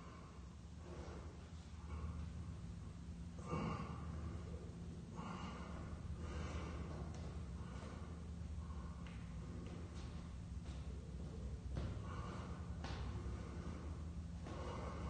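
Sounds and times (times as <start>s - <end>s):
man breathing hard: 0.0s - 15.0s
steady low hum: 0.0s - 15.0s.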